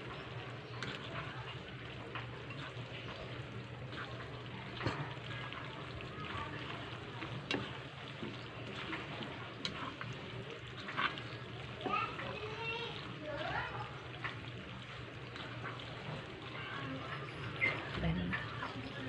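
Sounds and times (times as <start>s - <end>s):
wet squishing of pasta: 0.0s - 19.0s.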